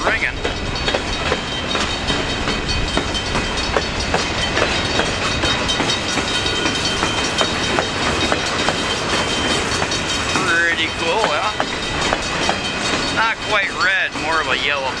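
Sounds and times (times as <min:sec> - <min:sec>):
crossing signal bell ringing: 0:00.0 - 0:15.0
freight train wheels clicking: 0:00.0 - 0:15.0.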